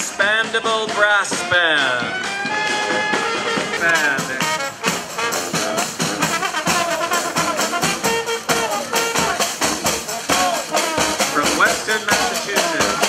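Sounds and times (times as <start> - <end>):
fast drum beat: 0.0 - 13.0
brass horns playing: 1.8 - 13.0.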